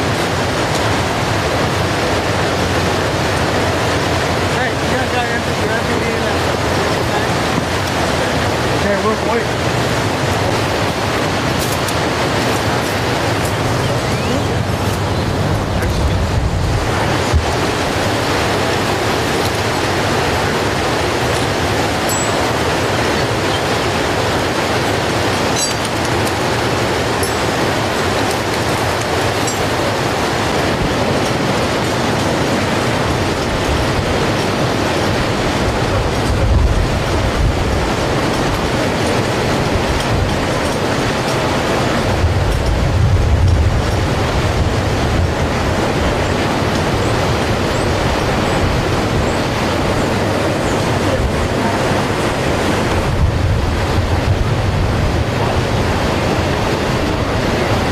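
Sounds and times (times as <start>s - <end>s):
river water rushing: 0.0s - 57.9s
wind buffeting microphone: 0.0s - 57.9s.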